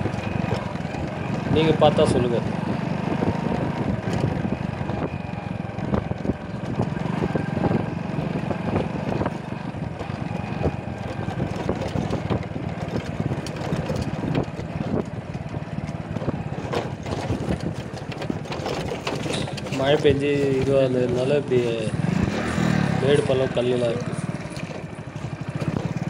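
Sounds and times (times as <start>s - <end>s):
knocks and rattles over bumps: 0.0s - 26.0s
small motorcycle engine running: 0.0s - 26.0s.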